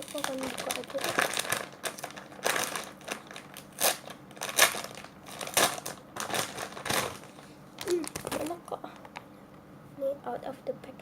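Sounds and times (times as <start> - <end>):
packaging crinkling and rustling: 0.0 - 9.3.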